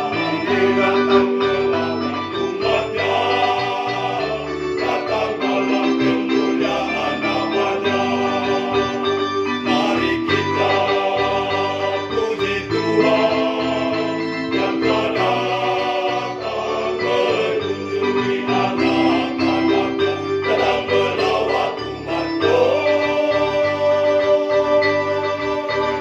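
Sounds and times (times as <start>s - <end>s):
choir singing a hymn: 0.0s - 26.0s
instrumental accompaniment: 0.0s - 26.0s.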